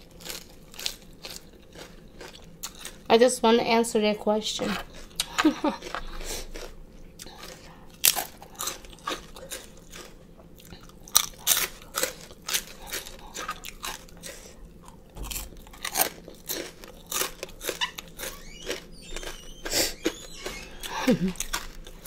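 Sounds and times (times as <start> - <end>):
close chewing crunches: 0.0 - 3.1, 4.7 - 22.0.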